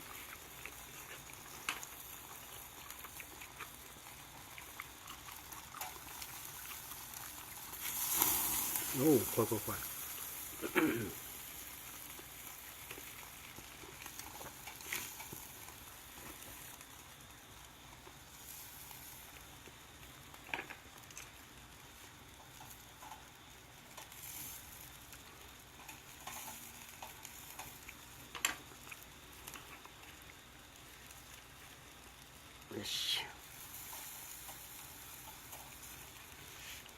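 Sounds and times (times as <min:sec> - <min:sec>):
meat sizzling on a grill: 0:00.0 - 0:36.9.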